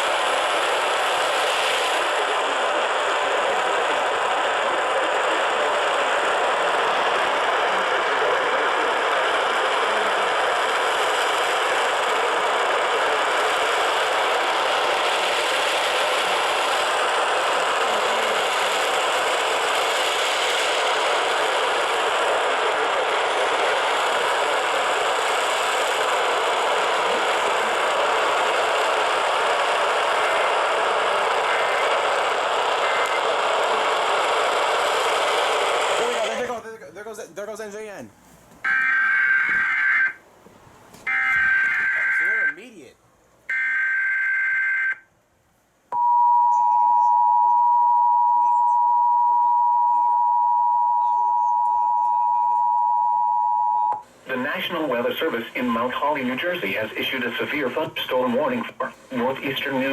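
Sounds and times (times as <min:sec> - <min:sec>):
radio static hiss: 0:00.0 - 0:40.2, 0:41.0 - 0:43.0, 0:53.9 - 0:59.9.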